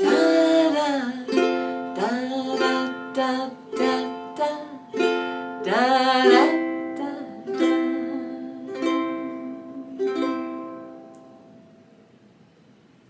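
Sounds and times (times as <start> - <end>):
person humming: 0.0 - 11.1
ukulele strums: 0.0 - 11.8.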